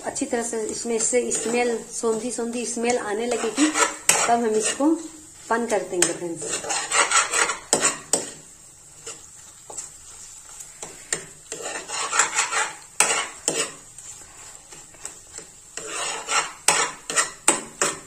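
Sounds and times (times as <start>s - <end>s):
ghee sizzling faintly: 0.0s - 18.0s
steel spoon scraping a pan: 0.1s - 18.0s.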